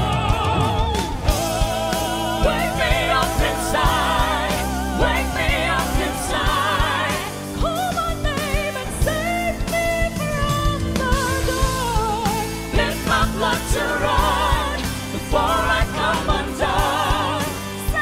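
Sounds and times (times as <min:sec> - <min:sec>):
live band with drums and bass: 0:00.0 - 0:18.0
woman singing: 0:00.0 - 0:18.0.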